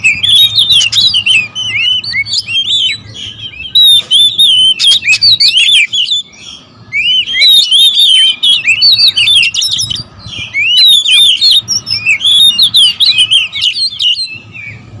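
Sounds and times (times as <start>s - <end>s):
birds calling agitatedly: 0.0s - 15.0s.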